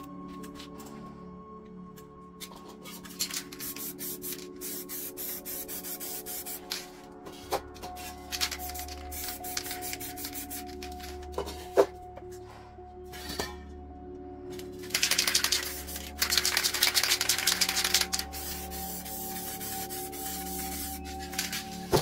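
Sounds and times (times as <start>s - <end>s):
quiet background music: 0.0s - 22.0s.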